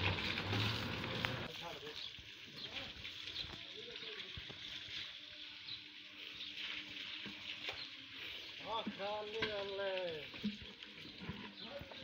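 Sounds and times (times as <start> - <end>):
hose water spraying: 0.0 - 12.0.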